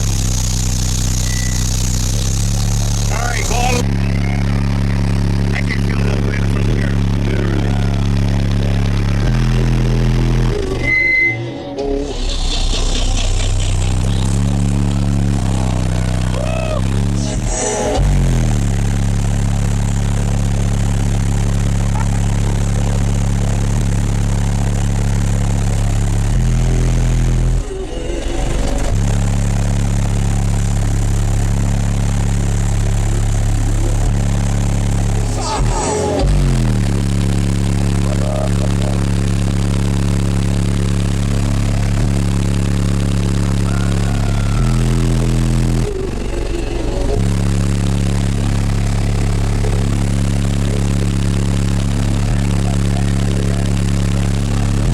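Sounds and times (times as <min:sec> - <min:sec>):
distorted low bass tone: 0:00.0 - 0:54.9.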